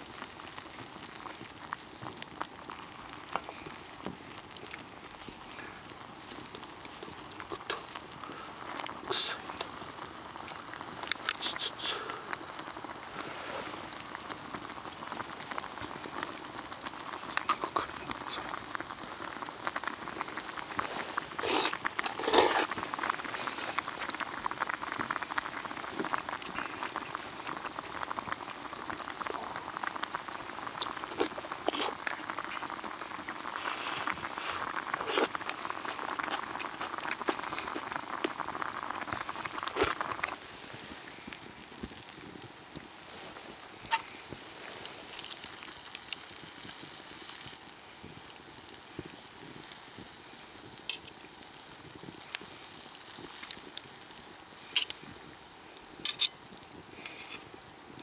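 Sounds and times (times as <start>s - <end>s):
pot bubbling and sizzling: 0.0s - 58.0s.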